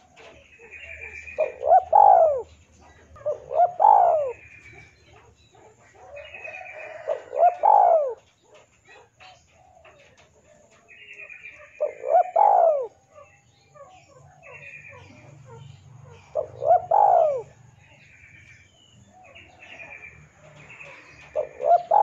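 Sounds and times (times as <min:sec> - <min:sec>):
dove cooing: 0:00.0 - 0:22.0
small birds chirping: 0:00.0 - 0:22.0.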